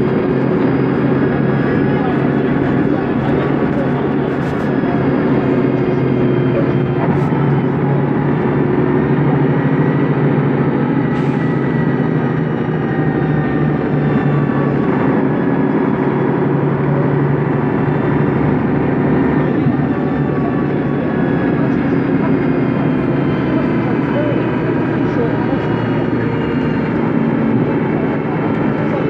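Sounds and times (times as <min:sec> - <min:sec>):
bus diesel engine running: 0:00.0 - 0:29.0.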